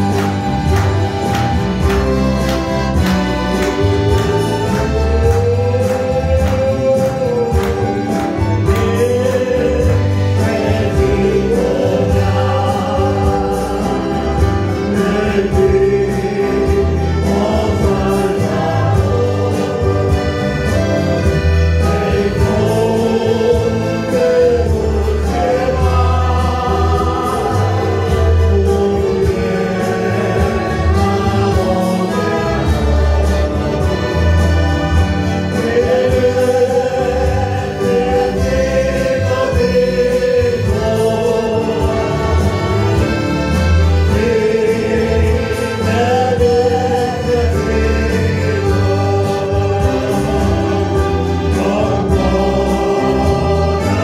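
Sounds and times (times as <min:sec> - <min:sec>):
accordion: 0:00.0 - 0:54.0
acoustic guitar: 0:00.0 - 0:54.0
choir singing: 0:00.0 - 0:54.0
saxophone: 0:00.0 - 0:54.0
violins: 0:00.0 - 0:54.0.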